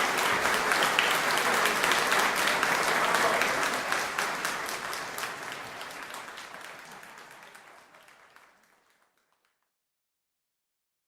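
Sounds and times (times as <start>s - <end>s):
applause: 0.0s - 9.8s.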